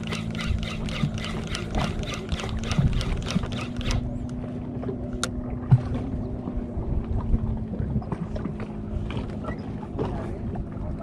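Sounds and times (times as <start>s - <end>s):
water moving around hull: 0.0s - 11.0s.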